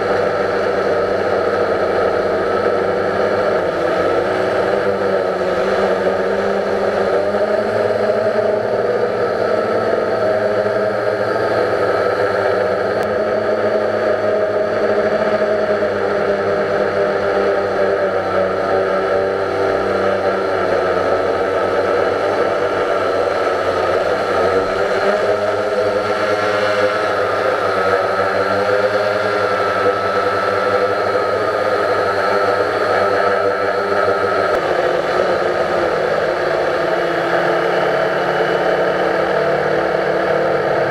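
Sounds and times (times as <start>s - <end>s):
drone propellers whirring: 0.0s - 40.9s.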